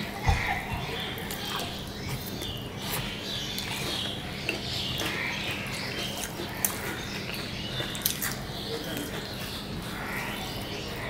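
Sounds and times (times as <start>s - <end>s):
wet chewing and lip smacking: 0.0s - 10.0s.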